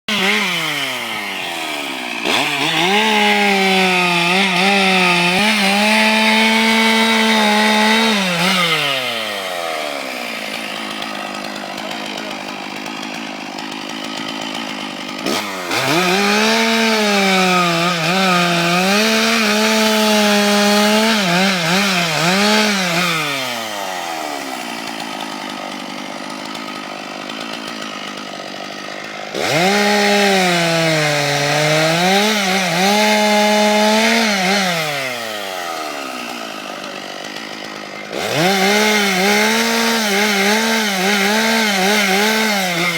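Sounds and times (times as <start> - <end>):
chainsaw revving and idling: 0.0 - 42.9.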